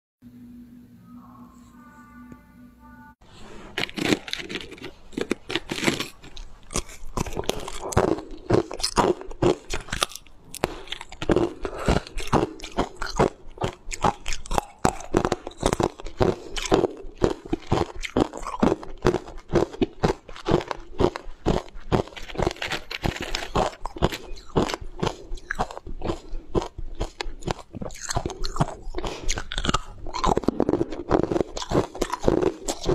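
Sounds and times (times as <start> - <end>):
teeth crunching ice: 3.8 - 32.9.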